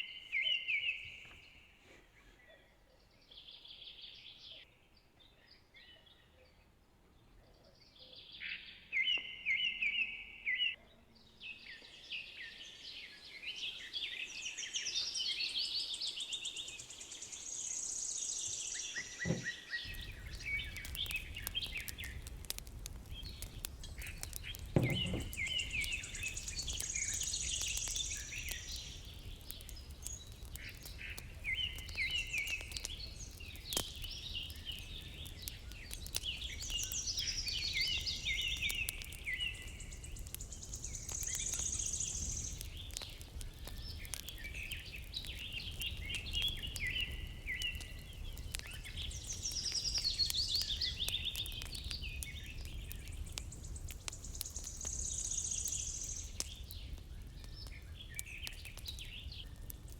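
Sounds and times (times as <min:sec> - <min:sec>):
songbirds singing trills: 0:00.0 - 0:59.9
wood fire crackling: 0:11.4 - 0:59.9.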